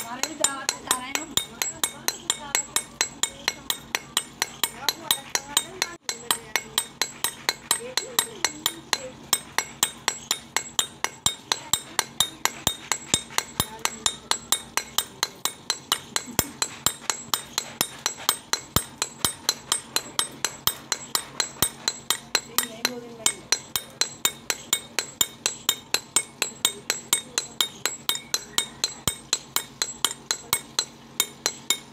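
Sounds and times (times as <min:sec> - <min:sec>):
hammer clinking on grinding stone: 0:00.0 - 0:31.9.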